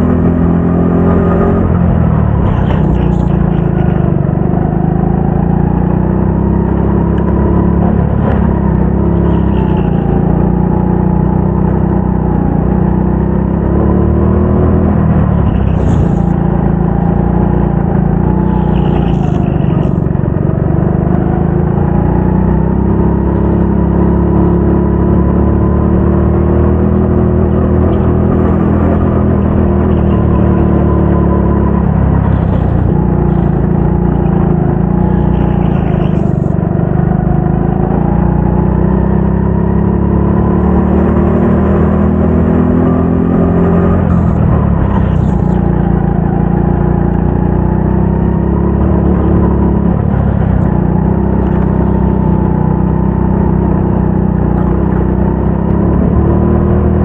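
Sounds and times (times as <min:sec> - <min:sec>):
go-kart engine racing: 0:00.0 - 0:57.0.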